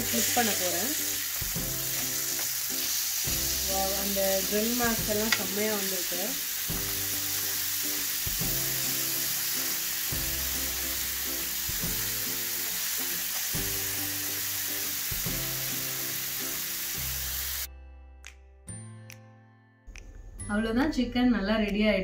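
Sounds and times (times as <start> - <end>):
chicken sizzling in hot oil: 0.0 - 17.7
background music with low chords: 0.0 - 22.0.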